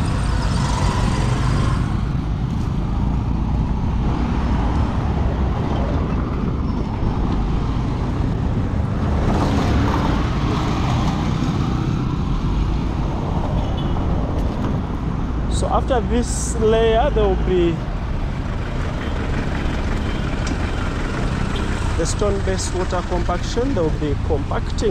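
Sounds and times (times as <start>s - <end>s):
road traffic rumble: 0.0s - 24.9s.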